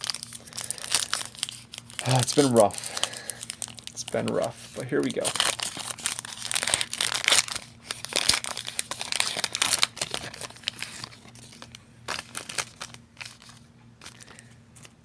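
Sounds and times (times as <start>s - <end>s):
foil wrapper tearing and crinkling: 0.0s - 15.0s.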